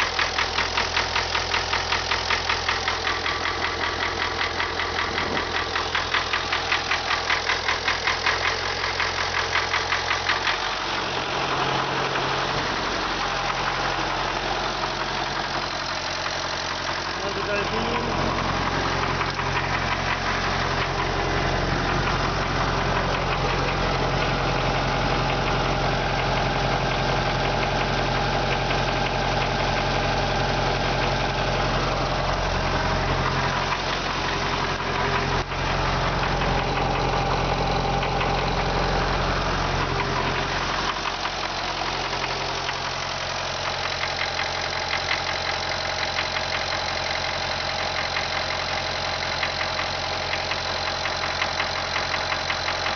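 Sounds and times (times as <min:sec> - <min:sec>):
diesel tractor engine running: 0:00.0 - 0:52.9
engine knocking: 0:00.0 - 0:52.9.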